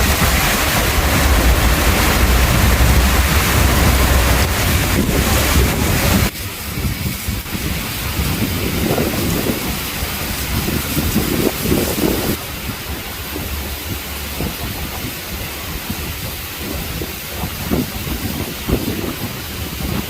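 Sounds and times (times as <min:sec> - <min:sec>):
heavy rain: 0:00.0 - 0:20.0
thunder rumbling: 0:00.0 - 0:20.0.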